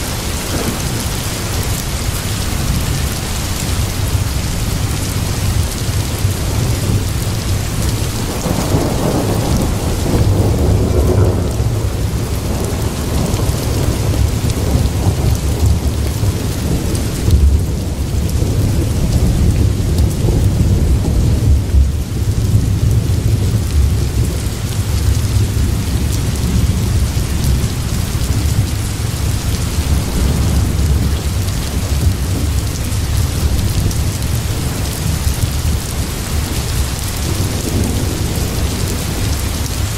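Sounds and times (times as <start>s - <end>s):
low rumble of thunder: 0.0s - 39.9s
steady rain: 0.0s - 39.9s.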